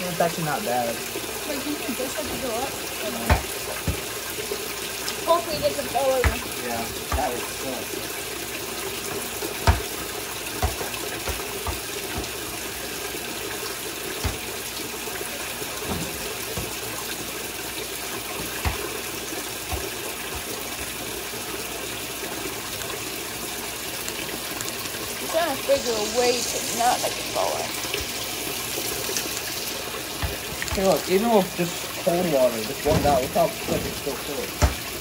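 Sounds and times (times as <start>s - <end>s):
water pouring into tub: 0.0s - 35.0s.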